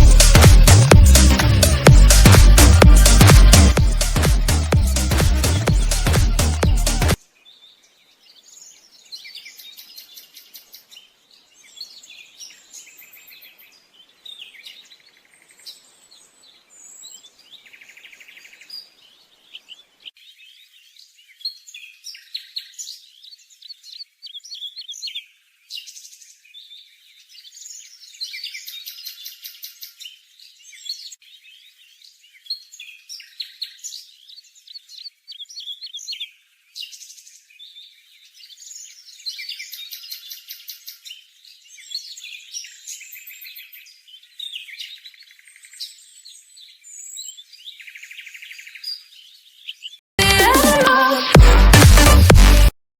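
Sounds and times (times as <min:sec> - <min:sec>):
songbirds chirping and trilling: 0:00.0 - 0:50.1.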